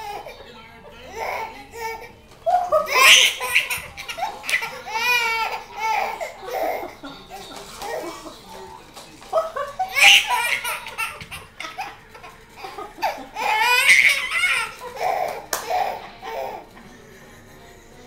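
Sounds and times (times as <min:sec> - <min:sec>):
baby laughing: 0:00.0 - 0:00.5, 0:01.1 - 0:16.8.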